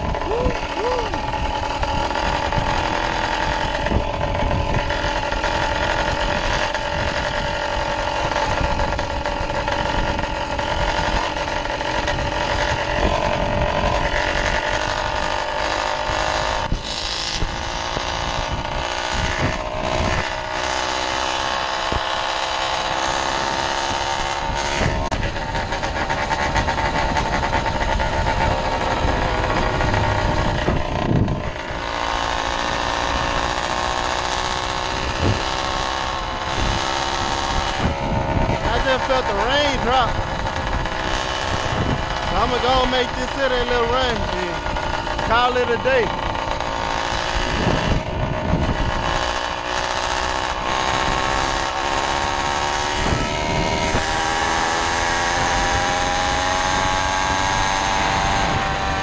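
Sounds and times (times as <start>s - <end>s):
two-stroke engine buzzing: 0.0s - 59.0s
wind rushing over microphone: 0.0s - 59.0s.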